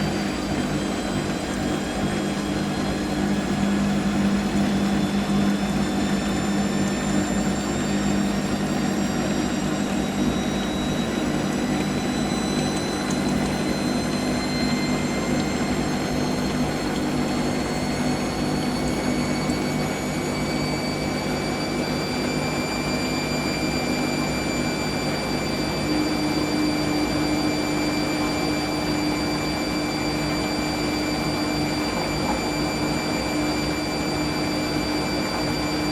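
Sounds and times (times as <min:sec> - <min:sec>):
washing machine drum spinning: 0:00.0 - 0:35.9.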